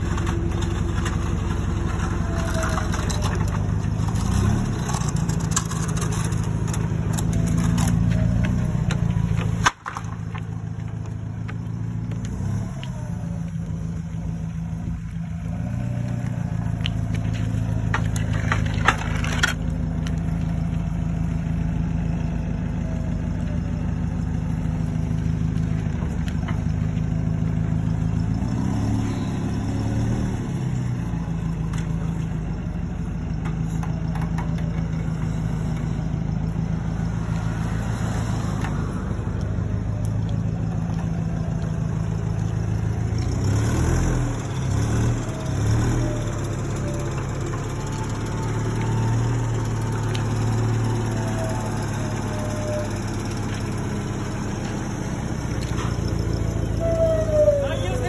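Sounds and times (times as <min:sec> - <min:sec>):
forklift engine running: 0:00.0 - 0:58.0.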